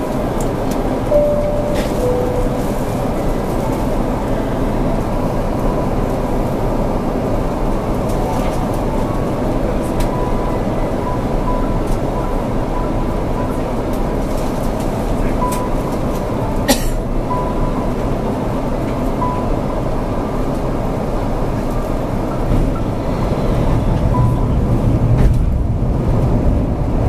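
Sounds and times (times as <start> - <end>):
airplane cabin roar: 0.0 - 27.0.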